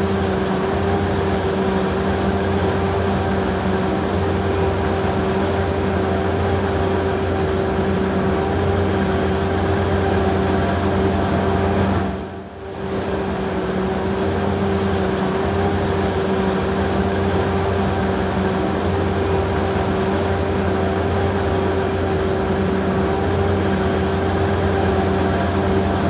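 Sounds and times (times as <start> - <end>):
engine drone: 0.0 - 26.0
harvester high whine: 0.0 - 26.0.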